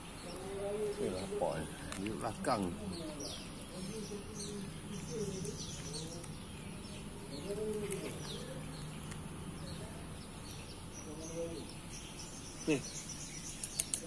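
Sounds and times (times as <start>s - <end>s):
doves cooing: 0.0s - 12.0s
small birds chirping: 0.0s - 14.0s.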